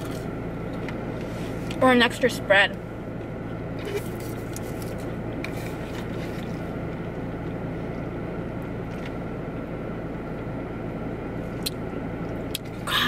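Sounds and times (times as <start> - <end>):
car cabin hum: 0.0 - 13.0.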